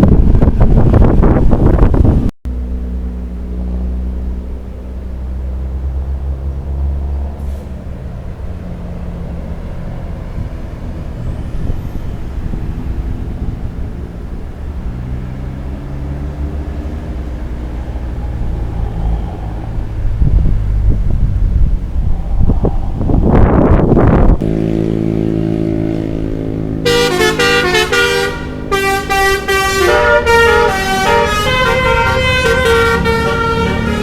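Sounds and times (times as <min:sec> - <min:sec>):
bus engine humming: 0:00.0 - 0:34.0.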